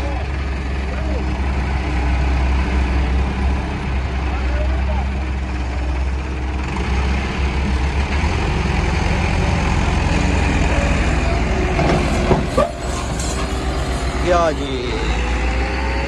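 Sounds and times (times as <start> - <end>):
excavator diesel engine: 0.0 - 16.0
tractors running: 0.0 - 16.0.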